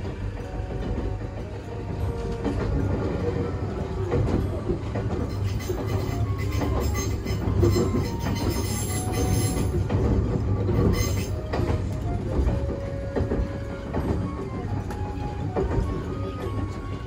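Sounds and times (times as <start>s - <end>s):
train wheels rumbling on rails: 0.0s - 17.0s
wheel squeals on rail: 2.0s - 17.0s.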